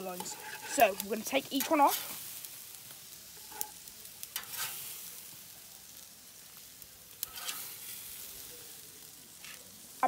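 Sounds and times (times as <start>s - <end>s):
steaks sizzling on a griddle: 0.0s - 10.0s.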